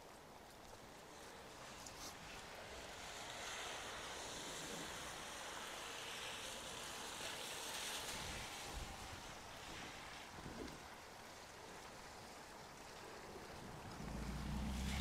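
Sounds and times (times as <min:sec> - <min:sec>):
rain on wet pavement: 0:00.0 - 0:15.0.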